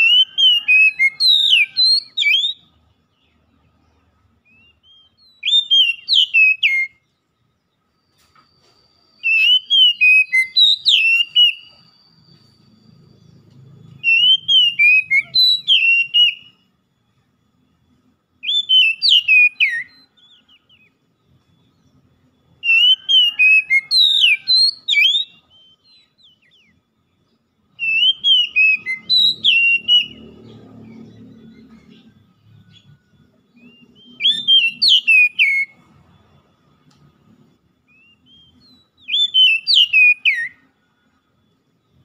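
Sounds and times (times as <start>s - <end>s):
bird singing whistled phrases: 0.0s - 3.3s, 4.4s - 7.2s, 9.2s - 16.7s, 18.4s - 26.9s, 27.7s - 37.1s, 37.8s - 41.1s.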